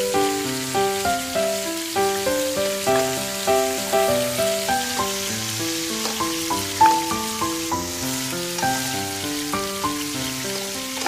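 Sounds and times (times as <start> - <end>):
instrumental background music: 0.0 - 11.0
meat sizzling in frying pan: 0.0 - 11.0.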